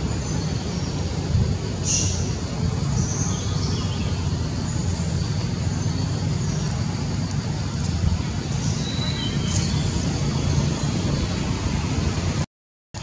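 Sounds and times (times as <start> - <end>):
low outdoor rumble: 0.0 - 12.4.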